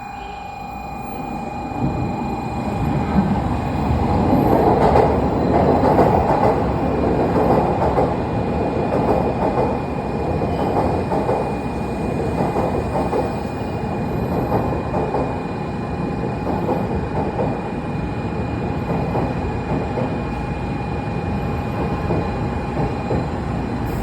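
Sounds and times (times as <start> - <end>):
train wheels rumbling on rail: 1.4 - 24.0.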